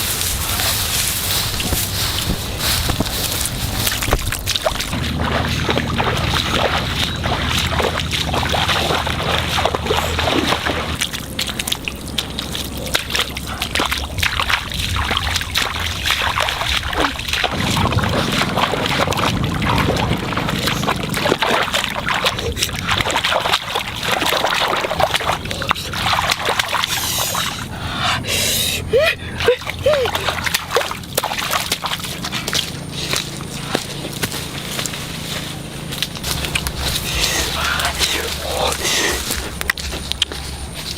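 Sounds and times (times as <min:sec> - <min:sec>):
low steady hum: 0:00.0 - 0:40.9
water splashing and sloshing: 0:00.0 - 0:40.9.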